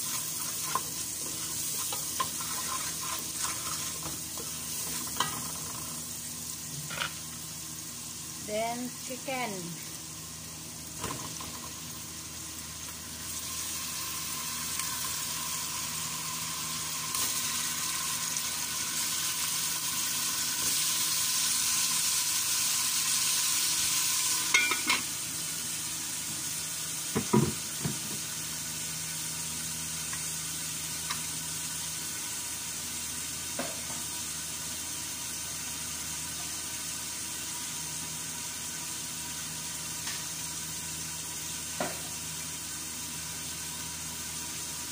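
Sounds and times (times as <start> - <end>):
chicken sizzling in hot oil: 0.0 - 44.9.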